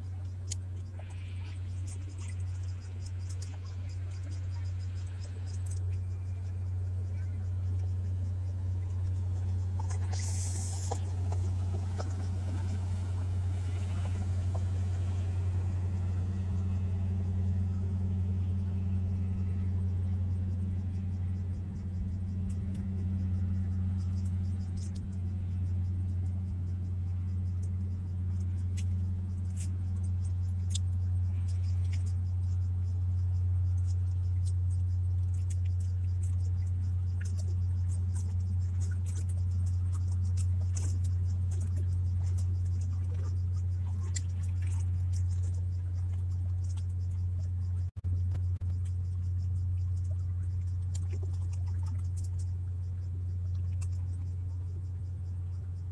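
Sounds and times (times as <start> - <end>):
low engine drone: 0.0 - 55.9.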